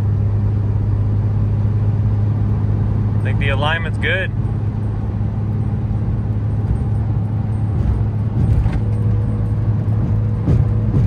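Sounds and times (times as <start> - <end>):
car cruising at highway speed: 0.0 - 11.0.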